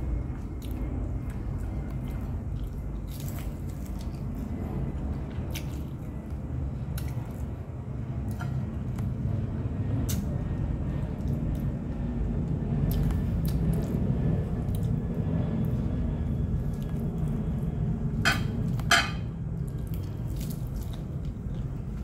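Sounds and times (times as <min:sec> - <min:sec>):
person chewing food: 0:00.0 - 0:09.2, 0:12.8 - 0:22.0
steady low rumble: 0:00.0 - 0:22.0.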